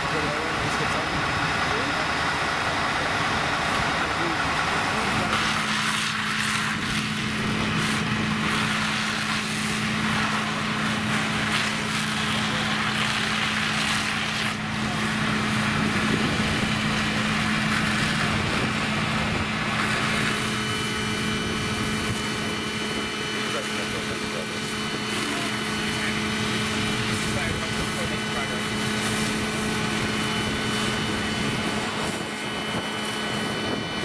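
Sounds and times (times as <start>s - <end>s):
fire truck engine humming: 0.0s - 34.0s.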